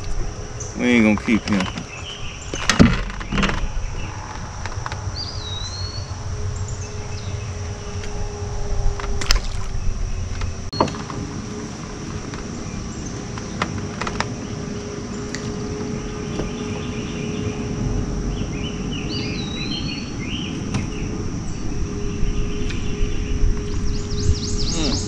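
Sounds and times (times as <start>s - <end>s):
songbirds chirping: 0.0s - 25.0s
steady low rumble: 0.0s - 25.0s.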